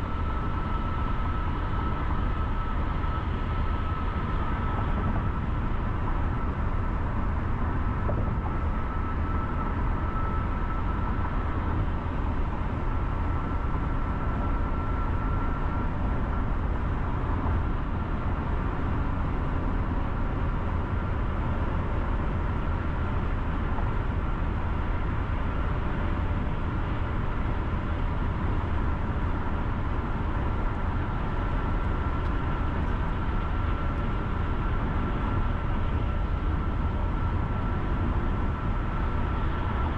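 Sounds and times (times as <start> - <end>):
car tyres and engine rumble: 0.0 - 39.9
faint high whine: 0.0 - 39.9.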